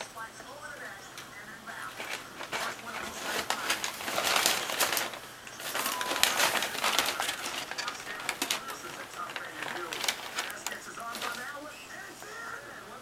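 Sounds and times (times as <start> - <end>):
packing paper crinkling: 1.6 - 12.5.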